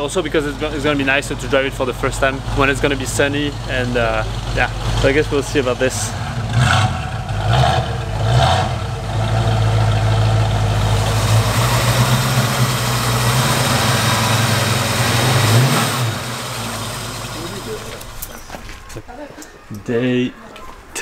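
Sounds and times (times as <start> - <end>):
car engine revving and idling: 0.0 - 18.4.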